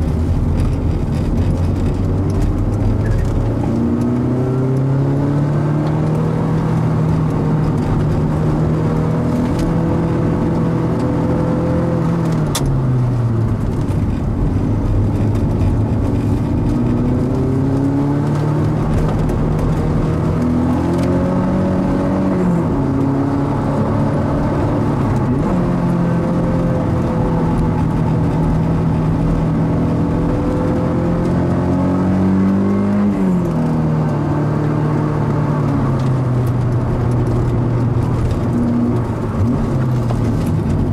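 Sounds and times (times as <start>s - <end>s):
car engine under load: 0.0s - 40.9s
road and tyre noise: 0.0s - 40.9s.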